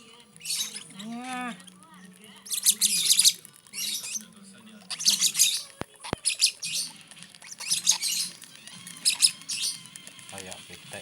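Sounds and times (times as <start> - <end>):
lovebird chicks begging squawks: 0.0 - 10.9.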